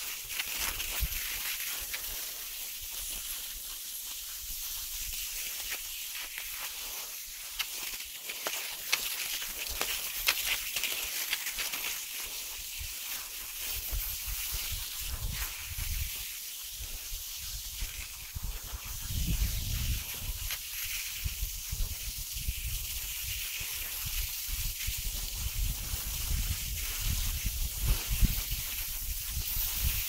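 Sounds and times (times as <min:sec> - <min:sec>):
sharp ski clicks: 0:00.0 - 0:16.5, 0:17.1 - 0:30.0
skis sliding over snow: 0:00.0 - 0:30.0.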